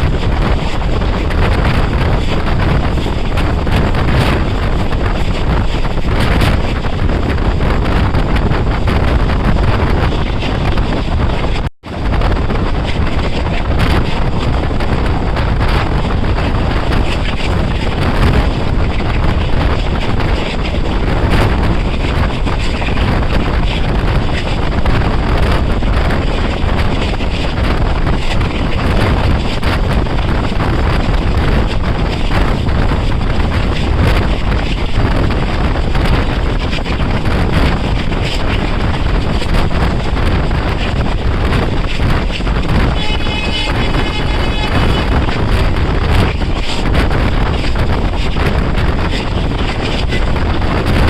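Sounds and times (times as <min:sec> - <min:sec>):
train wheels rumbling on track: 0:00.0 - 0:51.0
wind rushing over microphone: 0:00.0 - 0:51.0.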